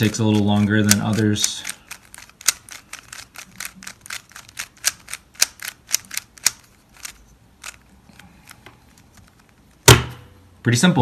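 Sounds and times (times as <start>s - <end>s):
puzzle cube clicking as turned: 0.0s - 9.8s.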